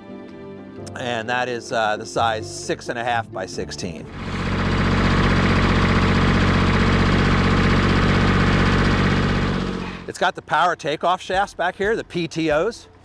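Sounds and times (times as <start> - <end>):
diesel engine running: 1.8 - 13.0.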